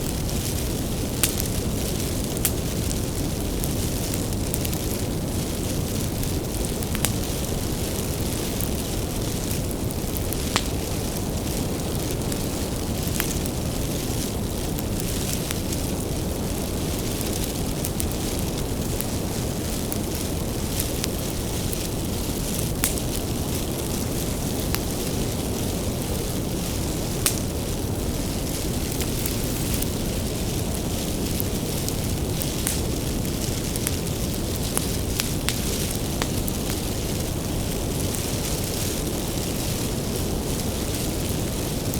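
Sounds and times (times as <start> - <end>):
firewood crackling and popping: 0.0 - 41.9
wood fire rumbling: 0.0 - 41.9.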